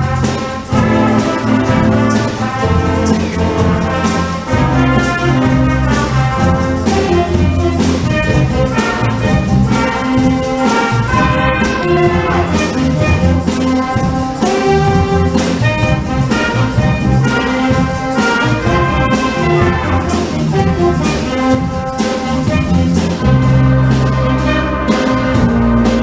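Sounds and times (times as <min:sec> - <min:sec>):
brass band playing: 0:00.0 - 0:26.0
percussion hits: 0:00.0 - 0:26.0.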